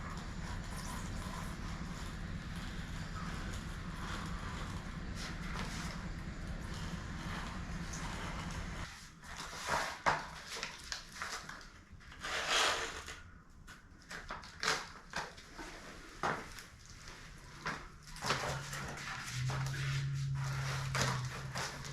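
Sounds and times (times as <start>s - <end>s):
low steady hum: 0.0s - 12.1s, 15.4s - 21.9s.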